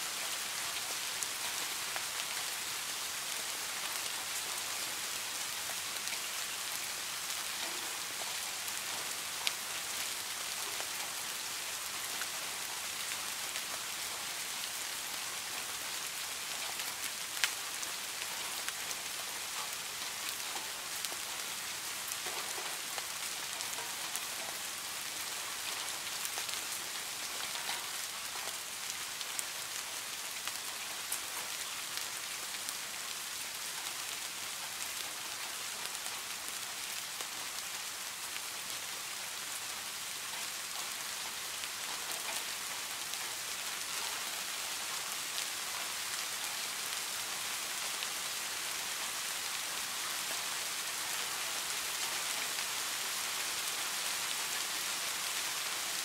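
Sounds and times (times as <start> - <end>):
rain falling on pond: 0.0 - 56.0.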